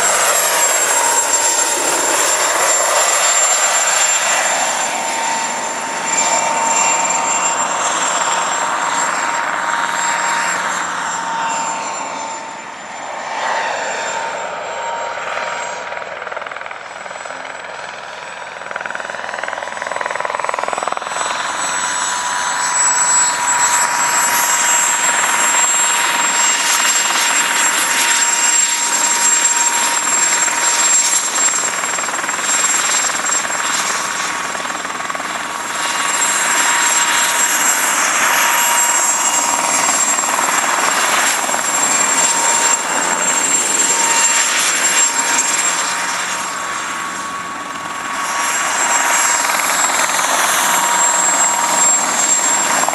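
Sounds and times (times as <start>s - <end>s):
helicopter turbine whine: 0.0s - 52.9s.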